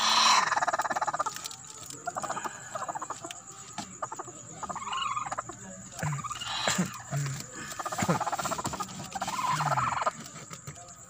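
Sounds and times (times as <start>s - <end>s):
hen clucking: 0.0s - 10.8s.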